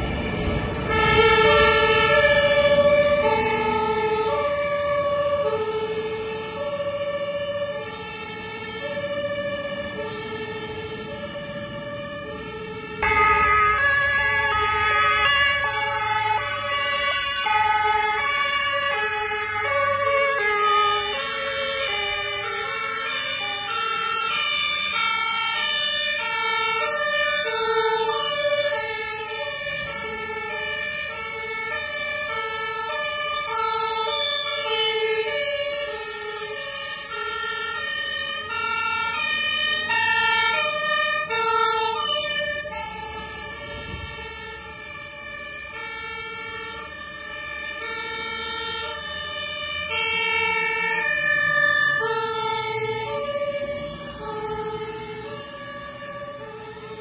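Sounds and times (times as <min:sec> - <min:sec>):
two-tone sirens: 0:00.0 - 0:57.0.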